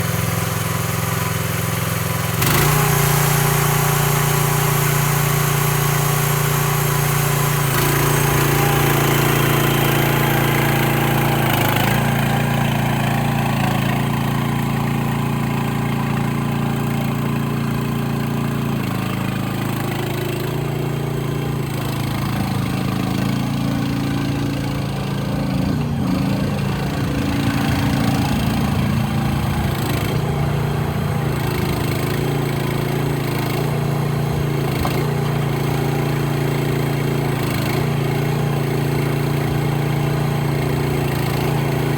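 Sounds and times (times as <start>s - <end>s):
small excavator engine running: 0.0s - 41.9s.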